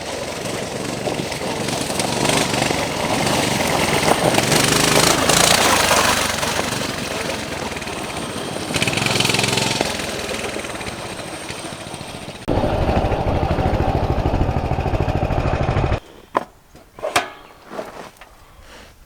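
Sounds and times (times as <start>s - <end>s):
mini bike engine running hard: 0.0s - 16.0s.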